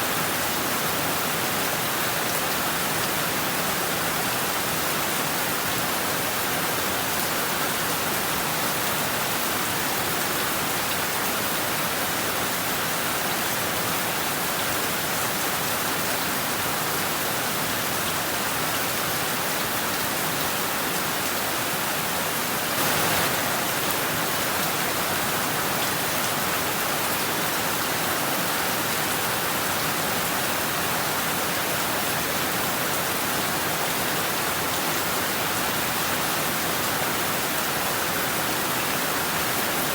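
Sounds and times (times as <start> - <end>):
heavy rain on rooftops and trees: 0.0 - 39.9.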